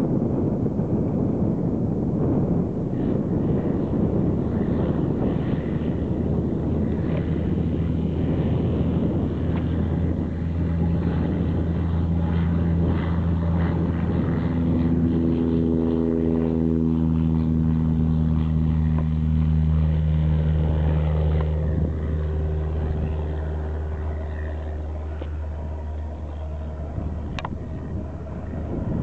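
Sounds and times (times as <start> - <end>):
light aircraft engine and propeller: 0.0 - 29.0.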